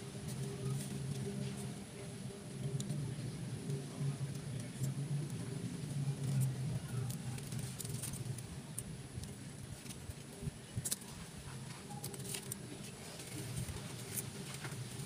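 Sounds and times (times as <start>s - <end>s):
dry fibre clicks and crackles: 2.5s - 15.0s.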